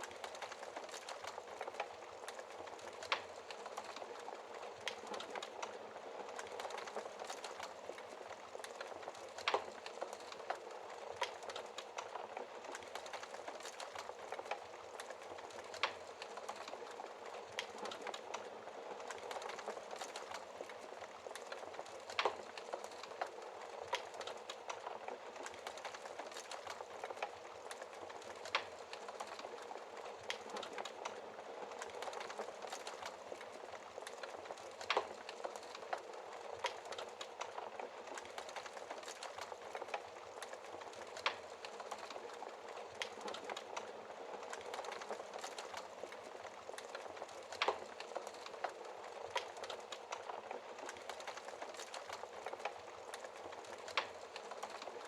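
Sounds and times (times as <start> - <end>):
fire crackling: 0.0 - 55.0.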